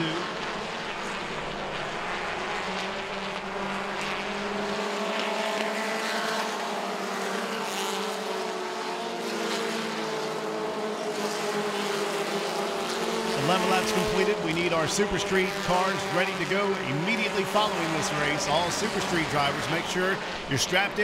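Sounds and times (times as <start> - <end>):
racing truck engines droning: 0.0 - 21.0.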